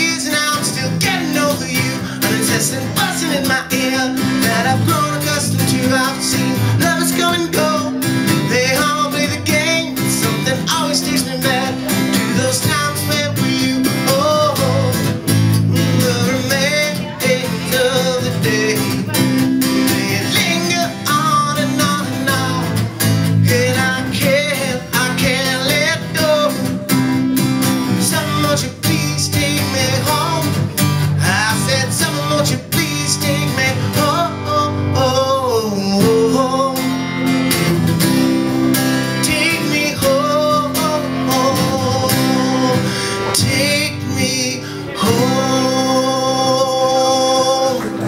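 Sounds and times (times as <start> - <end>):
bass guitar: 0.0 - 48.0
man singing: 0.0 - 48.0
strummed acoustic guitar: 0.0 - 48.0.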